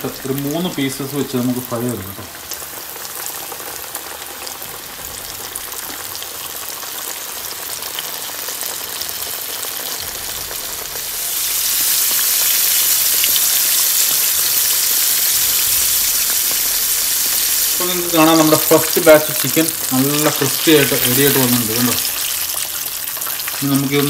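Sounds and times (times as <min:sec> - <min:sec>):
chicken deep-frying in oil: 0:00.0 - 0:24.0.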